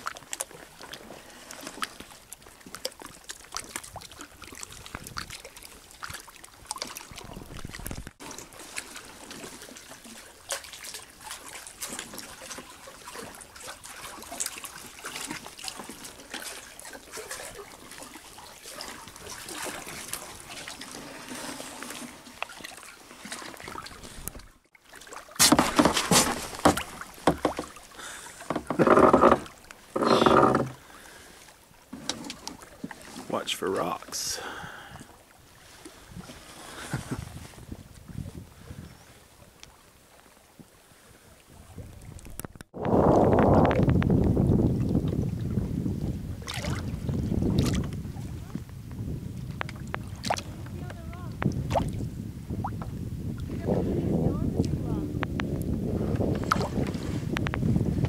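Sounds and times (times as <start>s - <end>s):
paddle splashes and drips: 0.0s - 53.7s, 54.6s - 58.0s
water lapping against hull: 0.0s - 58.0s.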